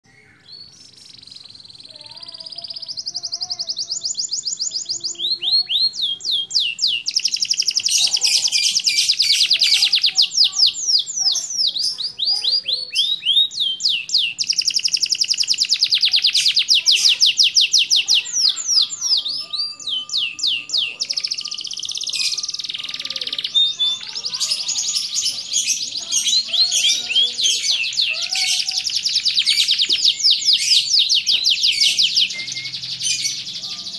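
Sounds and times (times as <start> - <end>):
canary singing trills: 0.0 - 33.9.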